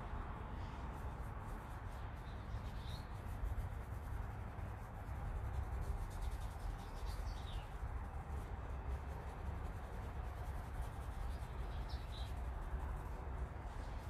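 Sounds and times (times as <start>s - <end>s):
low background rumble: 0.0s - 14.0s
paintbrush rubbing fabric: 0.0s - 14.0s.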